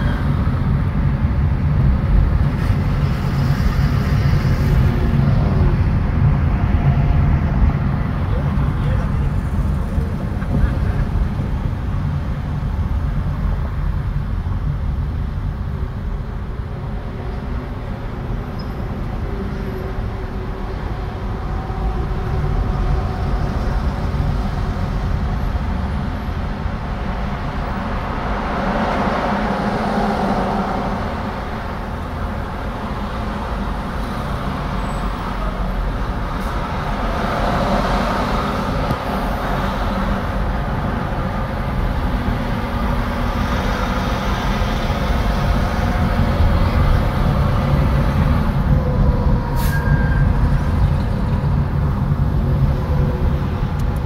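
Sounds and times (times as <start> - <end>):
traffic rumble from inside car: 0.0 - 54.0.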